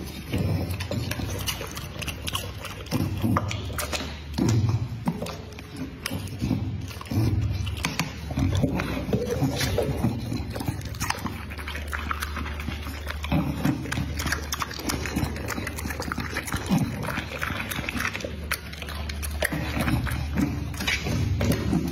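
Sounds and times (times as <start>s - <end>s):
dog chewing and licking: 0.0s - 21.9s.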